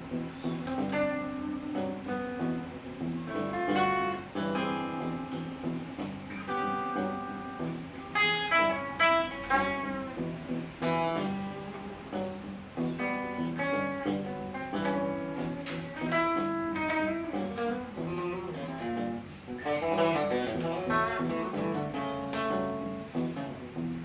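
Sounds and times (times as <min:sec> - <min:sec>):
solo guitar playing: 0:00.0 - 0:24.0.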